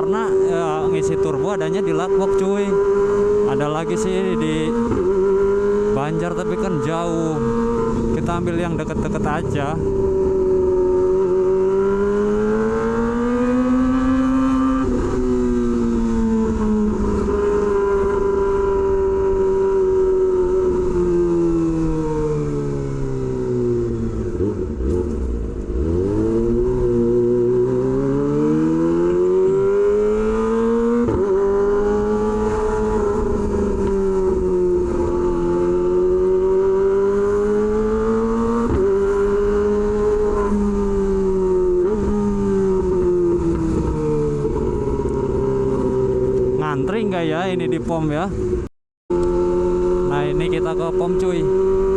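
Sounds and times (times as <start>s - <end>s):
motorcycle engine while riding: 0.0s - 51.9s.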